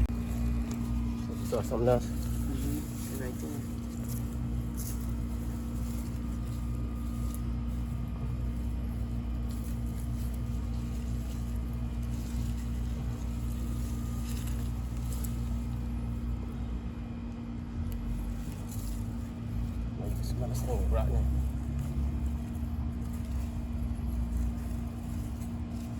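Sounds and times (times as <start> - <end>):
low machine hum: 0.0 - 25.9.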